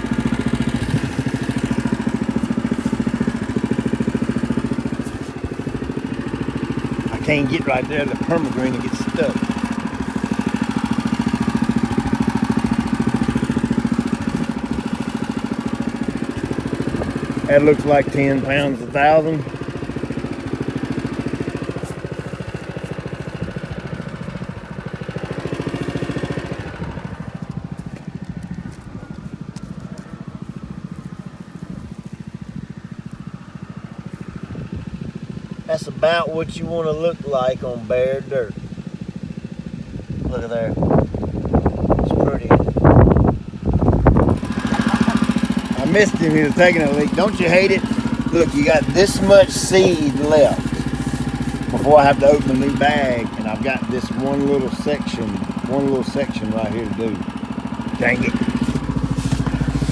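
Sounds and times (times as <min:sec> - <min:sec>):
ride-on mower engine running: 0:00.0 - 0:59.9.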